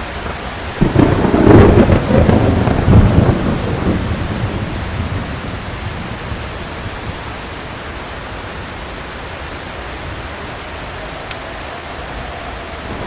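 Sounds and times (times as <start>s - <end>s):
heavy rain falling: 0.0s - 13.0s
thunder rumbling: 0.0s - 13.0s.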